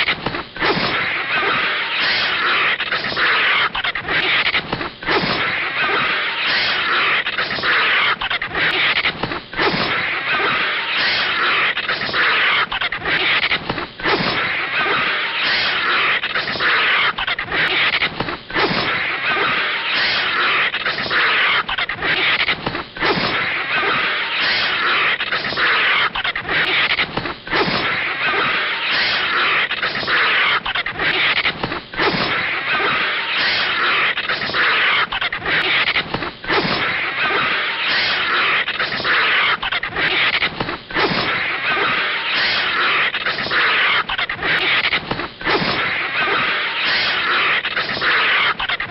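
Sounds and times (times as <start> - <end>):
raspy hissing screech: 0.0 - 4.5, 5.1 - 18.0, 18.6 - 40.4, 41.0 - 44.9, 45.5 - 48.8.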